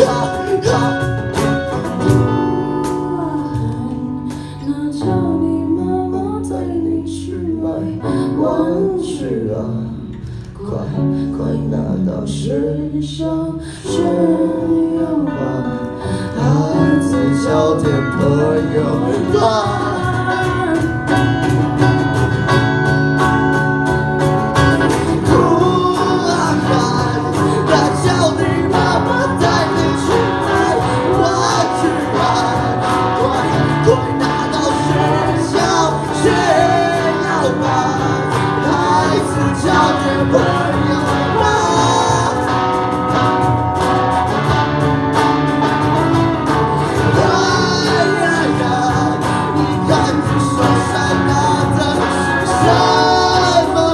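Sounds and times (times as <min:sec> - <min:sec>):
strummed guitars: 0:00.0 - 0:12.6, 0:13.6 - 0:53.9
people singing: 0:00.0 - 0:53.9.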